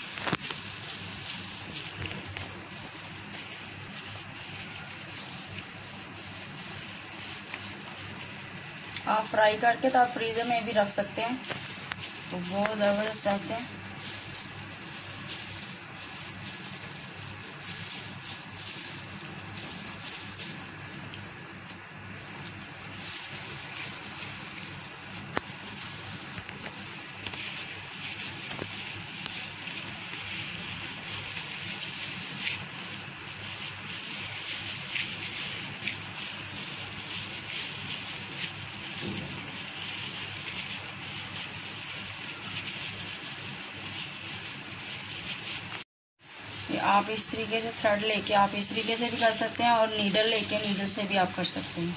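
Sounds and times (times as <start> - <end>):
moist filling squishing: 0.0 - 45.8
plastic glove crinkling: 0.0 - 51.9.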